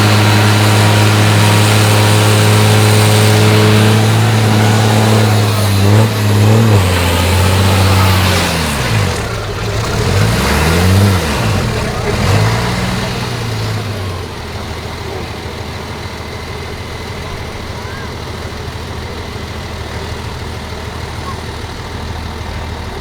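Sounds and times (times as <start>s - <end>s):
truck diesel engine revving: 0.0s - 23.0s.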